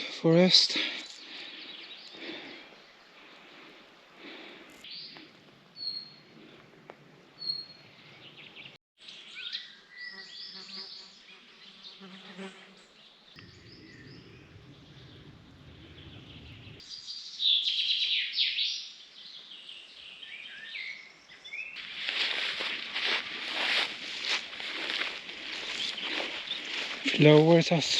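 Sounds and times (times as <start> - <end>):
songbirds singing and chirping: 0.0 - 12.1, 12.8 - 27.9.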